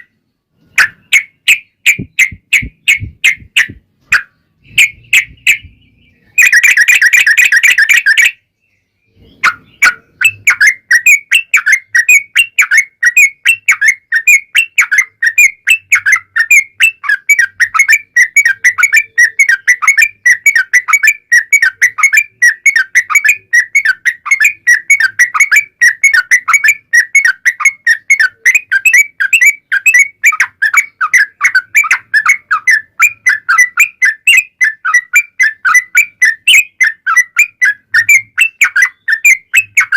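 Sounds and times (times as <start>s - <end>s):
bulbul song chattering: 0.0s - 39.9s.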